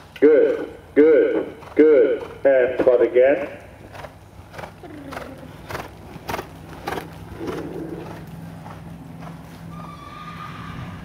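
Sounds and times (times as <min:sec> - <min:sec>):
horse hooves trotting on sand: 0:00.0 - 0:11.0
low steady hum: 0:00.0 - 0:11.0.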